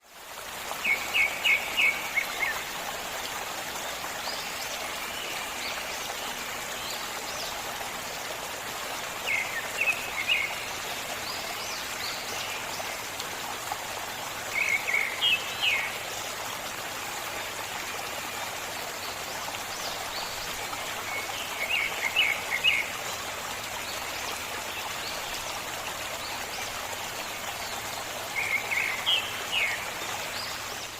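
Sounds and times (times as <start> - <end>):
stream flowing: 0.0 - 30.9.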